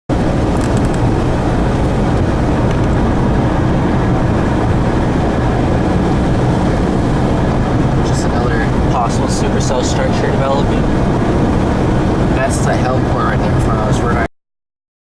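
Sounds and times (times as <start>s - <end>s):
road and wind noise: 0.1s - 14.3s.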